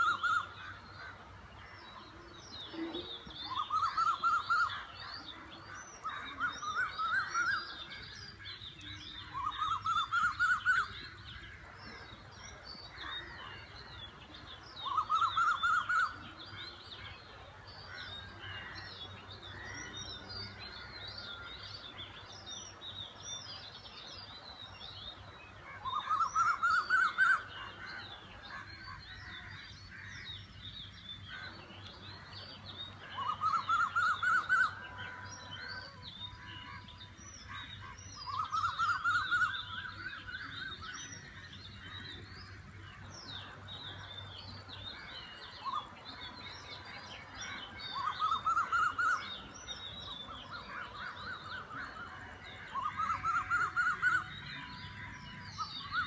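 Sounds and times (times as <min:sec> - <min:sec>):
birds calling and chirping: 0:00.0 - 0:56.0.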